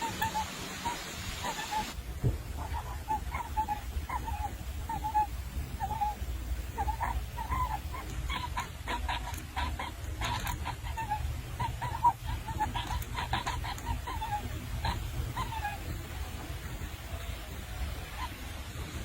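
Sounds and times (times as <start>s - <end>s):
bird chirping: 0.0s - 2.0s, 2.6s - 19.0s
low steady rumble: 1.9s - 19.0s.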